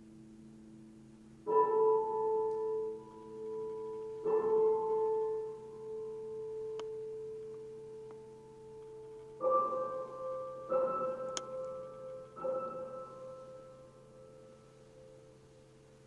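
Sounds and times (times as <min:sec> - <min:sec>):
struck long-ringing tones: 0:00.0 - 0:16.0.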